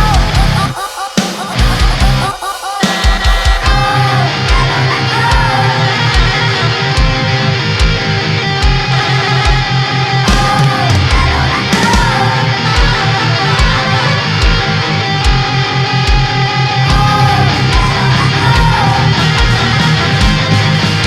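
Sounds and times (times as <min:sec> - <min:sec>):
heavy metal instrumental music: 0:00.0 - 0:21.0.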